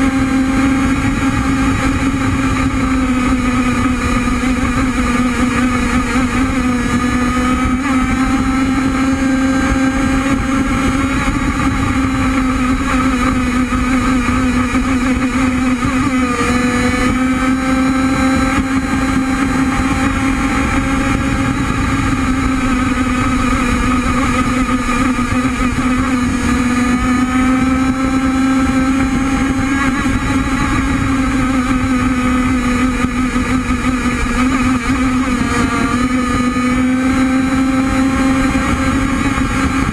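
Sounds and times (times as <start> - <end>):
two-stroke engine high revs: 0.0 - 39.9.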